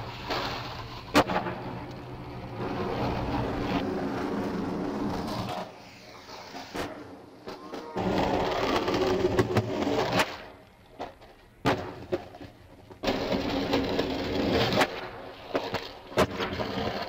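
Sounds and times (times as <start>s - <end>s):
skateboard popping and landing: 0.0s - 17.0s
skateboard wheels rolling on pavement: 0.0s - 17.0s.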